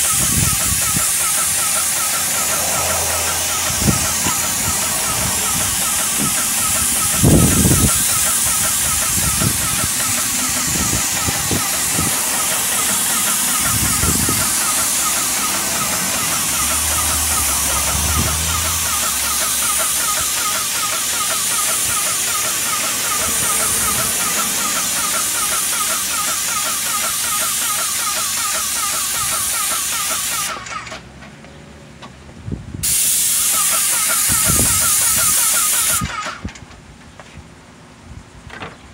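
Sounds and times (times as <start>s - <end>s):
paint sprayer hissing: 0.0s - 30.8s, 32.8s - 36.4s.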